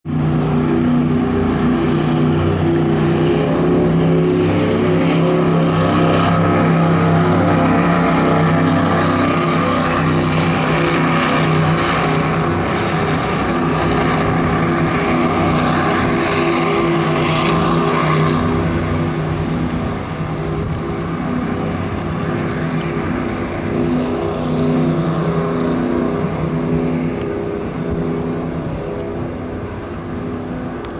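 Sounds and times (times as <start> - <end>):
powerboat engine at high speed: 0.0 - 30.9.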